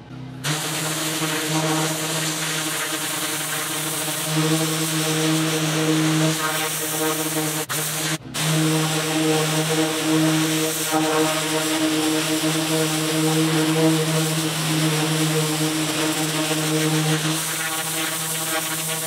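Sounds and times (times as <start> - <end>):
pressure washer motor hum: 0.4 - 19.0
water spray hissing on pavers: 0.5 - 19.0.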